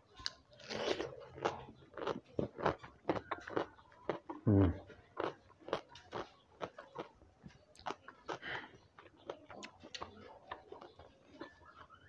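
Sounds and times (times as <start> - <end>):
person chewing food: 0.1 - 12.0.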